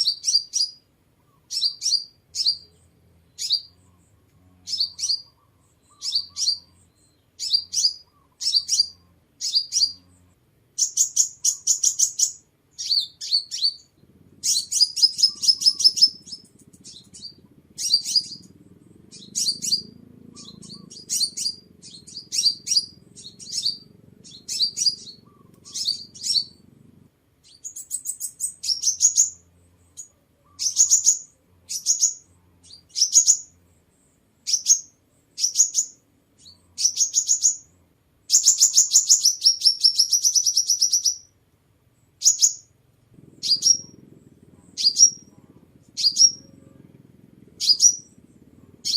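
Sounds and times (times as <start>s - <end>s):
sunbird twittering trills: 0.0s - 26.8s, 27.4s - 41.4s, 42.0s - 48.9s.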